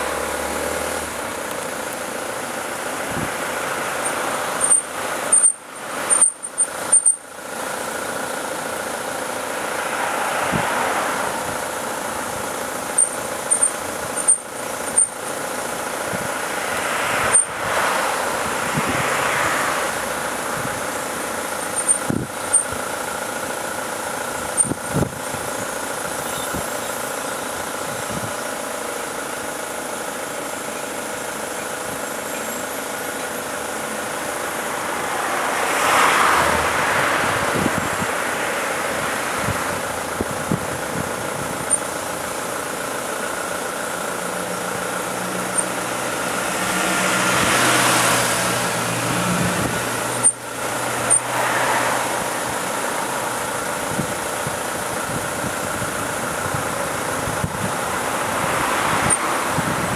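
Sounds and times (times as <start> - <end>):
vehicle engine and road hum: 0.0 - 59.9.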